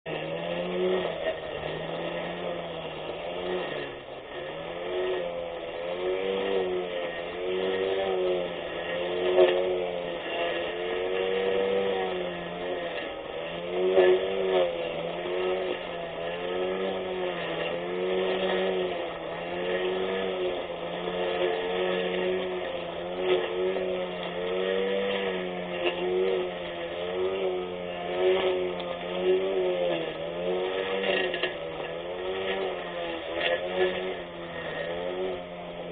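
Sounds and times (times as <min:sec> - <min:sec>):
electric lawn mower motor whining: 0:00.0 - 0:35.9.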